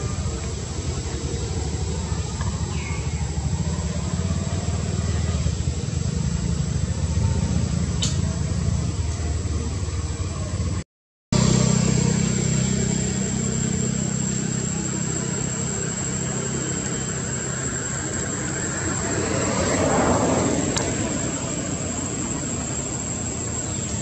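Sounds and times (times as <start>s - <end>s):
constant high-pitched tone: 0.0s - 10.8s, 11.4s - 24.0s
engine drone: 0.0s - 24.0s.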